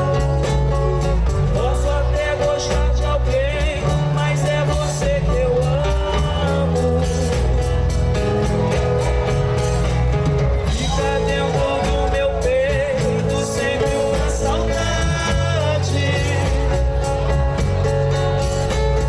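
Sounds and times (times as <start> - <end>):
bass: 0.0 - 19.0
guitar: 0.0 - 19.0.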